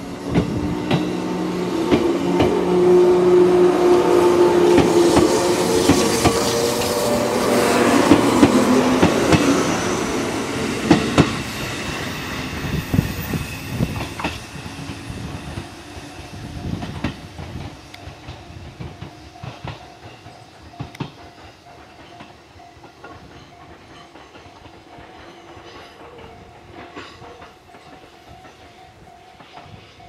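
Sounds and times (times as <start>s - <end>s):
electric train rolling past: 0.0s - 30.0s
wheels clacking over rail joints: 0.0s - 30.0s.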